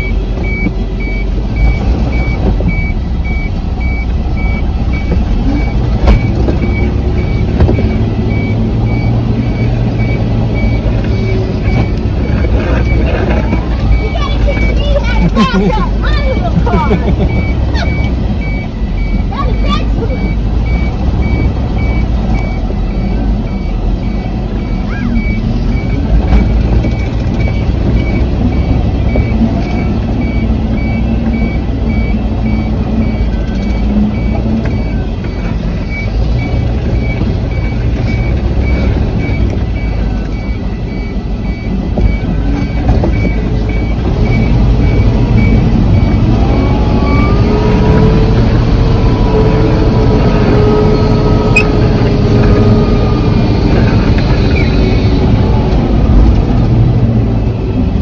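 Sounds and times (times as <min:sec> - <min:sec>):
reversing alarm beeping: 0:00.0 - 0:15.6, 0:16.8 - 0:55.6
truck engine running: 0:00.0 - 0:58.0.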